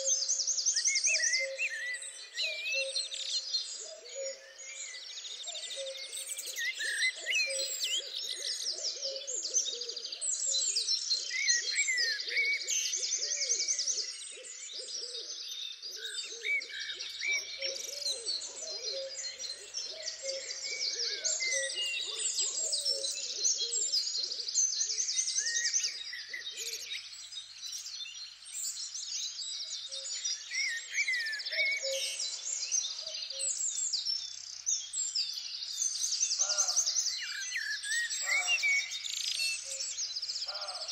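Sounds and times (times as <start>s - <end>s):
birds singing and calling: 0.0s - 40.9s.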